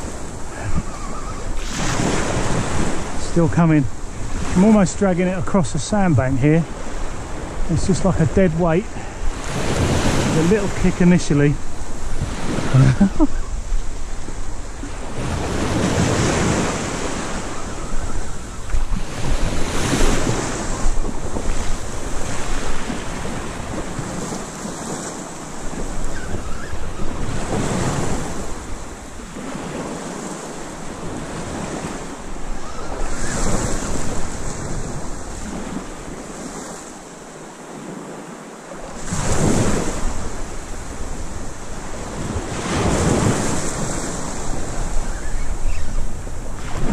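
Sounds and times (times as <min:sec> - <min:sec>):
wind buffeting microphone: 0:00.0 - 0:36.8, 0:38.8 - 0:46.9
sea waves breaking: 0:00.0 - 0:46.9.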